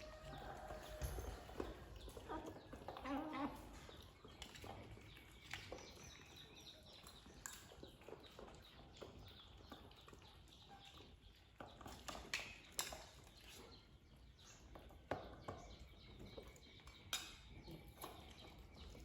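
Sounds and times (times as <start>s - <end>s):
kittens chewing and lapping: 0.0s - 19.0s.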